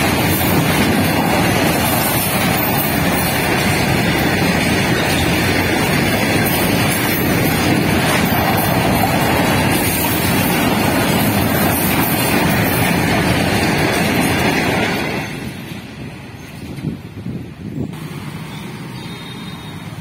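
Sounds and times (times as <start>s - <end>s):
freight train wheels clattering: 0.0s - 17.8s.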